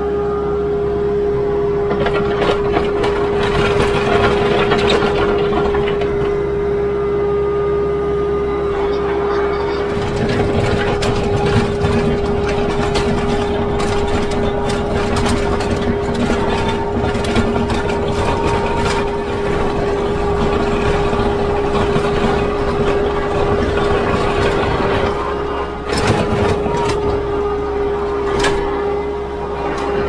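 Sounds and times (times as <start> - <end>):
steady whine: 0.0 - 30.0
tractor diesel engine running: 0.0 - 30.0.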